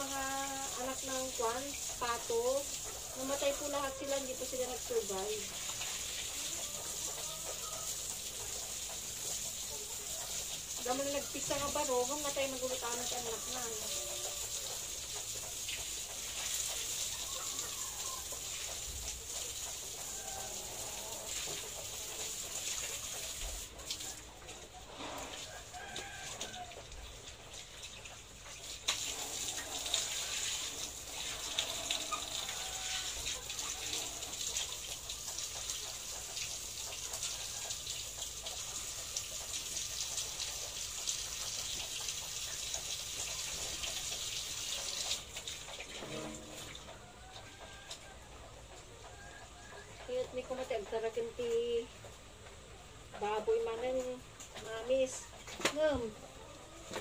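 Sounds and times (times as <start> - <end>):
water running from hose: 0.0 - 48.1
chickens clucking: 0.0 - 57.0.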